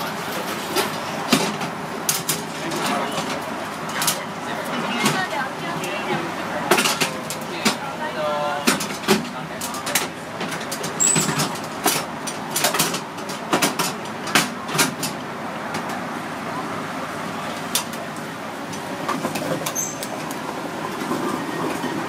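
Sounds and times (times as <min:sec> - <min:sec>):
shop noise: 0:00.0 - 0:22.0.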